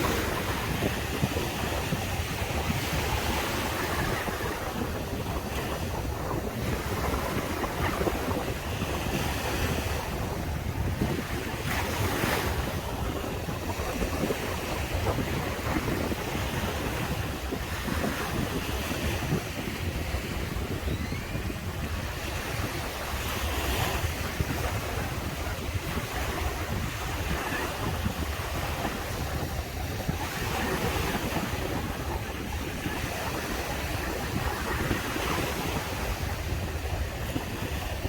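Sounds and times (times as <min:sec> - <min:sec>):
ocean waves breaking: 0:00.0 - 0:38.0
wind rumbling on microphone: 0:00.0 - 0:38.0.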